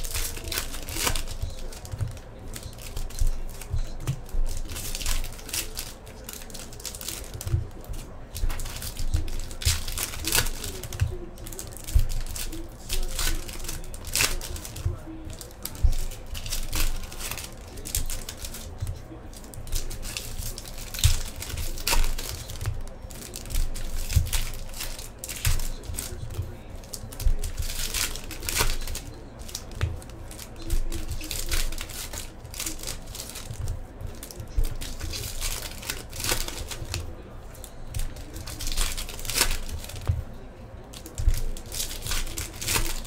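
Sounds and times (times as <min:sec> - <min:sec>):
foil wrappers crinkling and tearing: 0:00.0 - 0:43.0.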